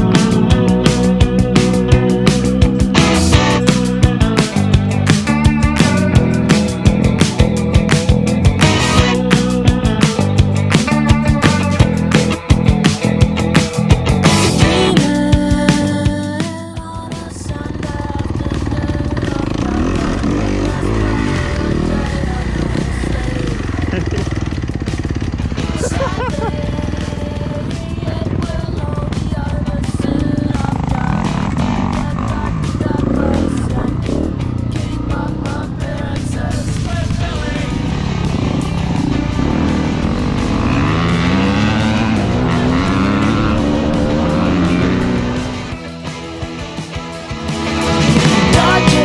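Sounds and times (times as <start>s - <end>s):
dirt bike engine revving: 0.0s - 16.0s, 17.6s - 49.0s
rock music: 0.0s - 49.0s.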